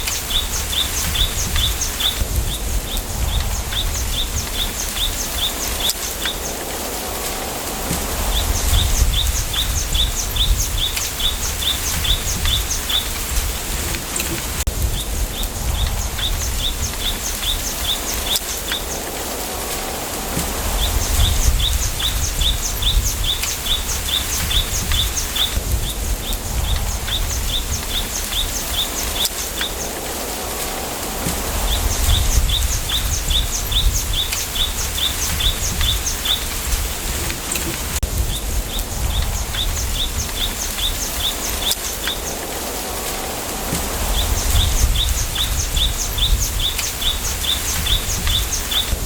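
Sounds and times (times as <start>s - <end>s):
low wind rumble: 0.0s - 49.0s
wind rustling bamboo leaves: 0.0s - 49.0s.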